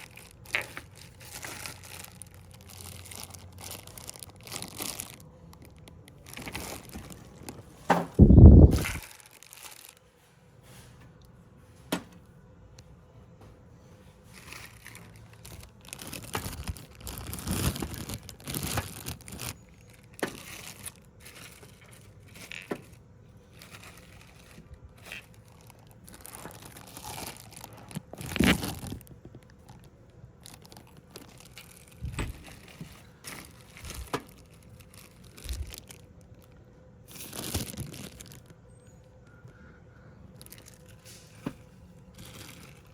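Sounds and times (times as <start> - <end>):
rustling and crinkling: 0.0 - 39.6, 40.3 - 42.9.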